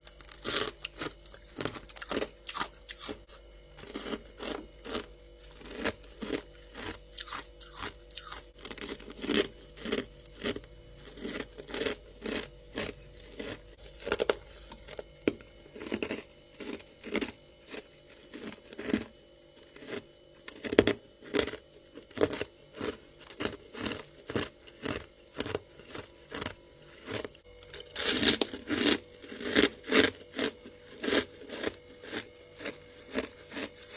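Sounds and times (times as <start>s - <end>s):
faint low hum: 0.0s - 33.9s
frost being chewed crunching: 0.0s - 33.9s.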